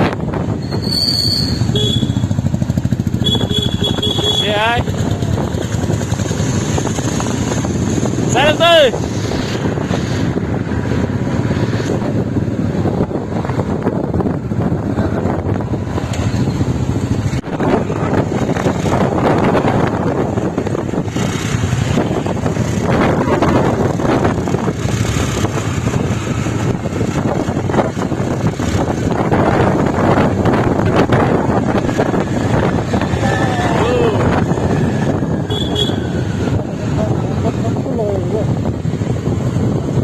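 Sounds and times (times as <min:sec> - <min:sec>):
vehicle road and engine noise: 0:00.0 - 0:40.0.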